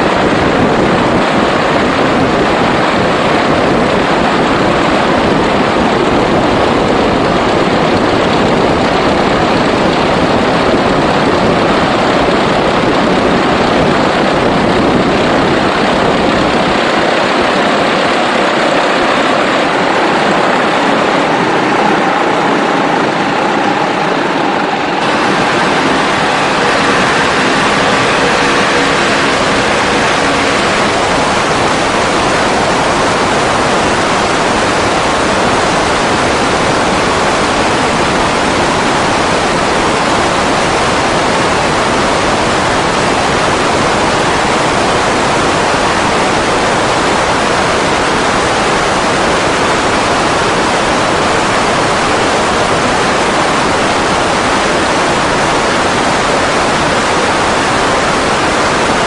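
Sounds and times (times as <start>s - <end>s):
wind and propeller wash on microphone: 0.0s - 59.0s.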